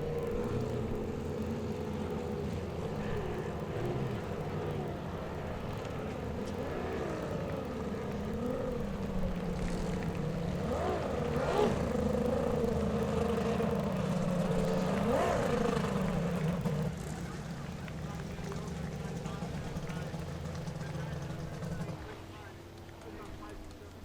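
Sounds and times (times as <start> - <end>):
racing boat engines: 0.0 - 24.0.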